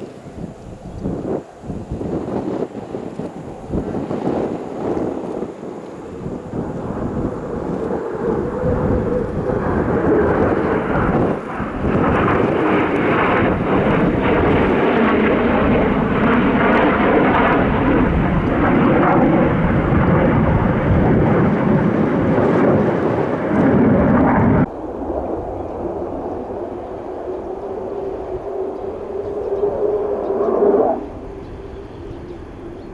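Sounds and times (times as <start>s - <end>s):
fighter jet engine rumble: 0.0s - 32.9s.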